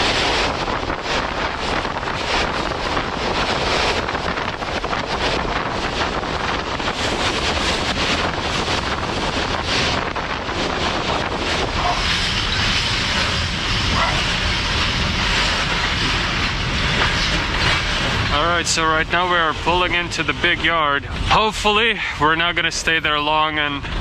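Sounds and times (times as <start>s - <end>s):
freight train rumble and clatter: 0.0s - 24.0s
wind buffeting microphone: 0.0s - 24.0s.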